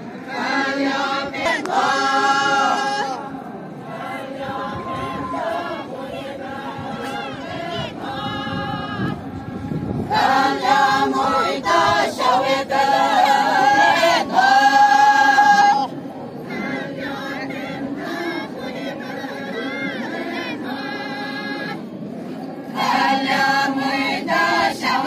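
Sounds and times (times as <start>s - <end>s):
women singing a folk chant: 0.0s - 25.0s.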